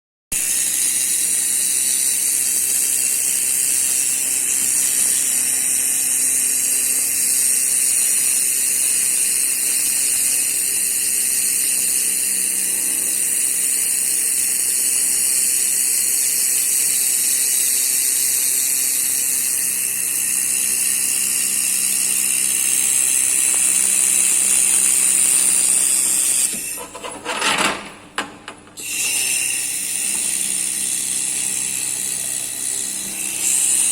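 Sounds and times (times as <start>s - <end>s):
welding machine hiss: 0.4s - 27.0s, 28.8s - 33.9s.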